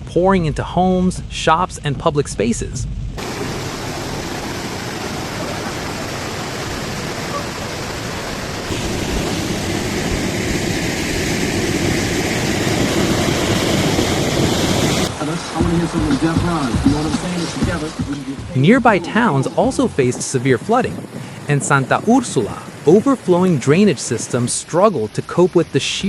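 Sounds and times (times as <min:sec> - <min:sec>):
floodwater rushing: 0:03.2 - 0:26.0.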